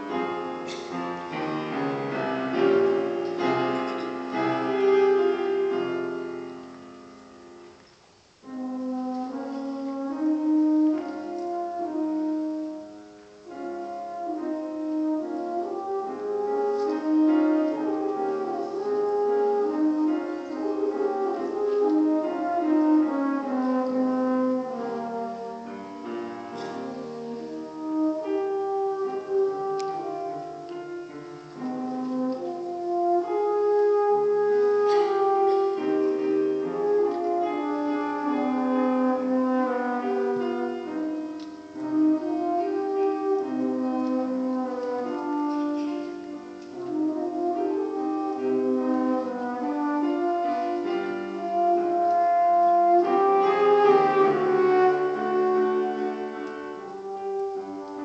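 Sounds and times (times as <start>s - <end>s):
french horn melody: 0.0s - 58.0s
piano accompaniment: 0.0s - 58.0s.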